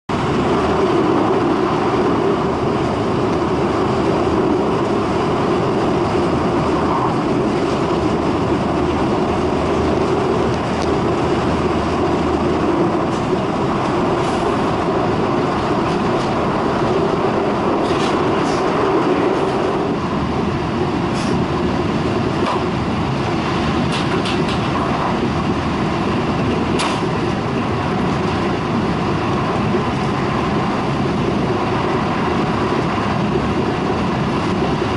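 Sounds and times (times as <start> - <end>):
train running noise inside car: 0.1 - 34.9.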